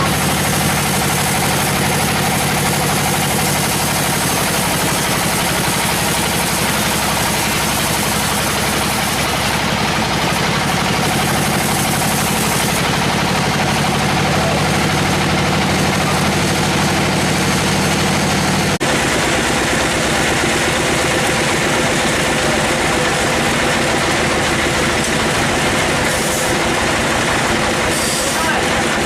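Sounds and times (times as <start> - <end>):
sawmill machinery hum: 0.0 - 29.0.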